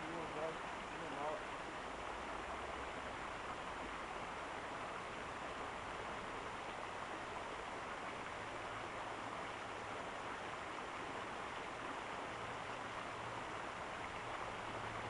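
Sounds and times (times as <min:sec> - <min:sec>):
water rushing from a pipe: 0:00.0 - 0:15.0.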